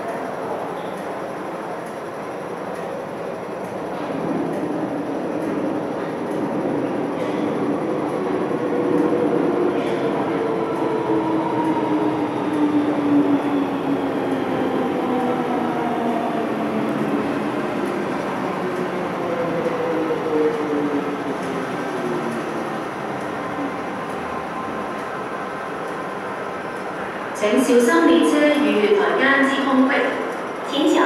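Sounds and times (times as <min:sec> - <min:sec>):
train rail running noise: 0:00.0 - 0:31.0.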